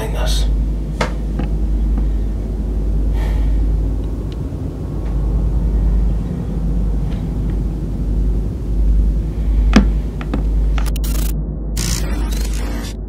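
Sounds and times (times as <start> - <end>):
loud deep rumble: 0.0 - 13.0.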